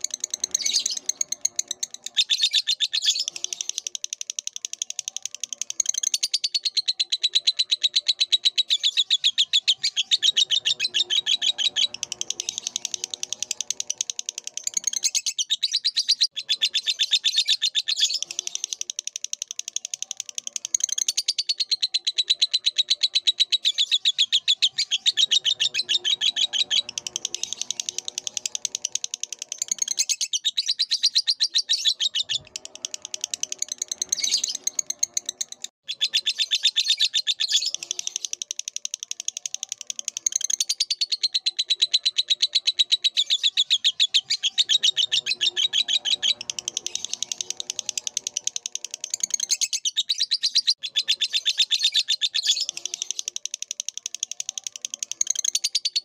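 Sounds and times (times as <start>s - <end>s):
lovebird chattering: 0.0s - 56.0s.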